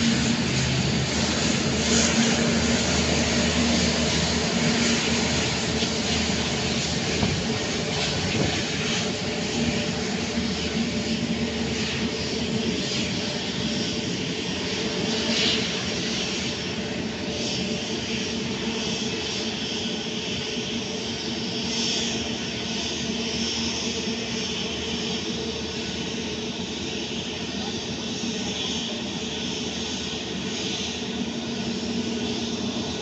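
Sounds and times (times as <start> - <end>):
jet engines at taxi power: 0.0 - 33.0.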